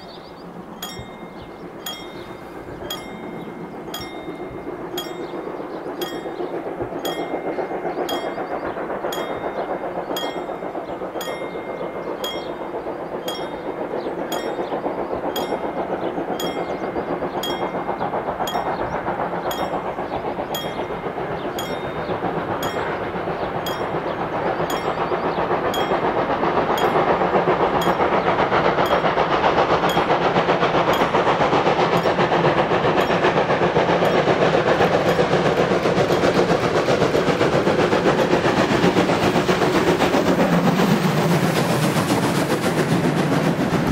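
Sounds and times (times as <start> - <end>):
steam locomotive exhaust: 0.0 - 43.9.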